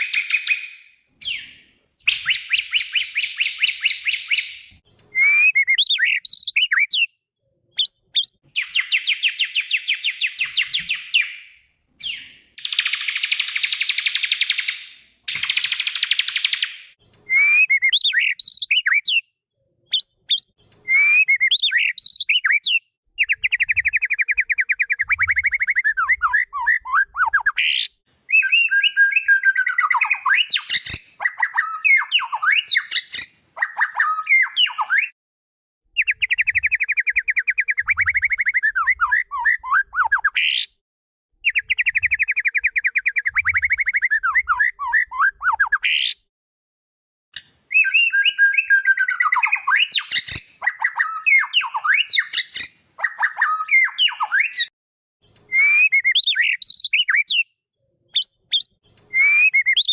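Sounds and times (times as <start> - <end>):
songbird trills and whistles: 0.0 - 7.2, 7.8 - 19.3, 19.9 - 35.2, 36.0 - 40.7, 41.4 - 46.2, 47.4 - 59.9.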